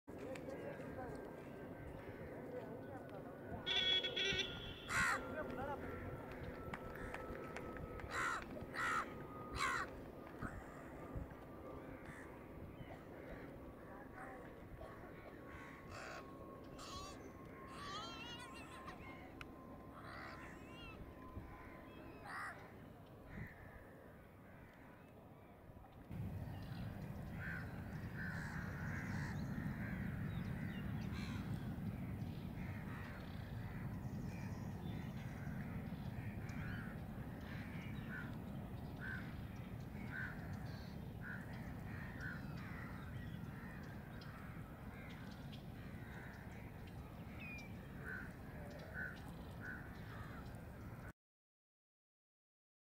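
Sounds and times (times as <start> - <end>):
crows cawing: 3.7 - 14.2, 14.8 - 19.2, 19.9 - 25.1, 27.1 - 51.1.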